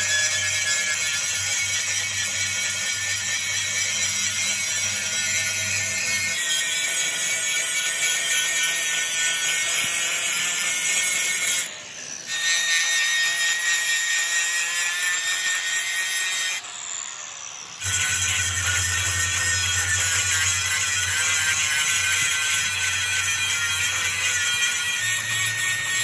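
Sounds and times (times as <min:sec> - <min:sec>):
power tool grinding metal: 0:00.0 - 0:26.0.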